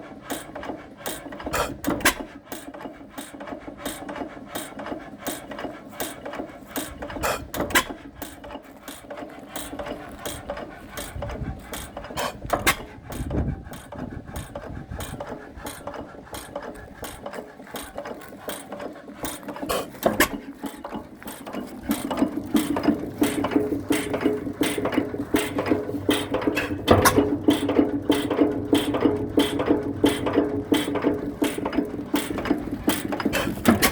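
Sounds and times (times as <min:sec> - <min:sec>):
engine mechanism clicking rapidly: 0:00.0 - 0:33.9.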